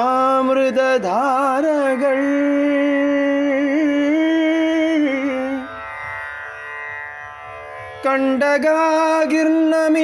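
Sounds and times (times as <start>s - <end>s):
indian classical instrumental music: 0.0s - 10.0s.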